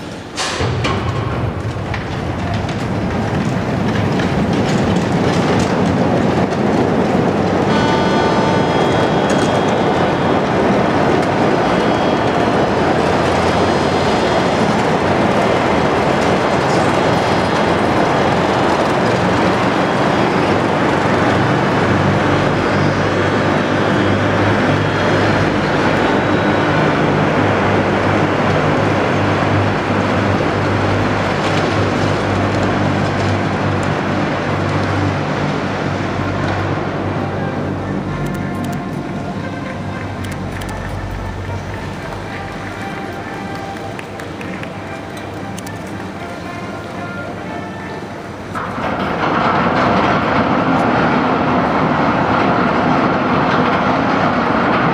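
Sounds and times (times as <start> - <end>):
ship hull rumbling and grinding: 0.0 - 54.9.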